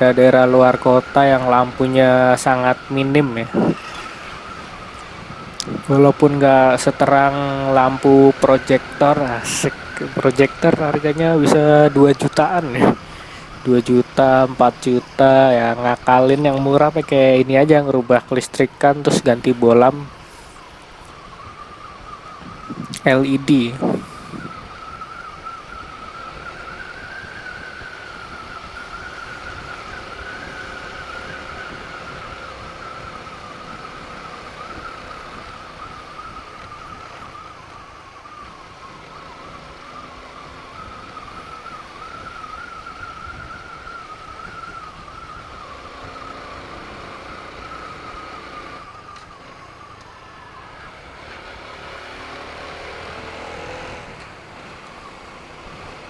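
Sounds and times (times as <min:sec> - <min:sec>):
high wavering whine: 0:00.0 - 0:56.0
road and wind noise: 0:00.0 - 0:56.0.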